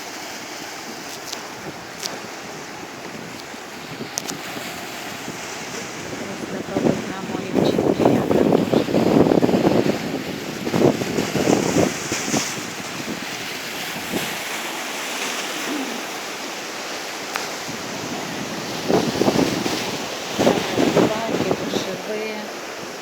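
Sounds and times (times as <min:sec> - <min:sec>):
sea surf washing ashore: 0:00.0 - 0:23.0
wind buffeting microphone: 0:00.0 - 0:23.0.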